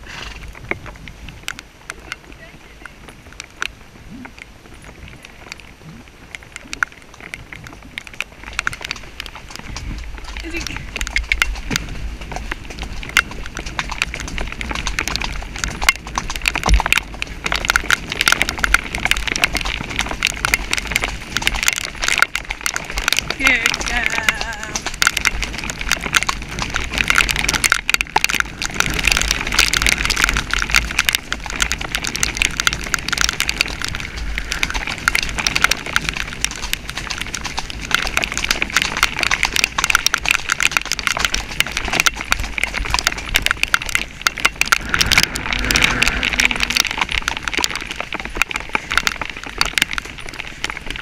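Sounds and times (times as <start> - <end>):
horse hoofbeats: 0.0 - 51.0
rain pattering on camera: 0.0 - 51.0
wind buffeting microphone: 0.0 - 51.0.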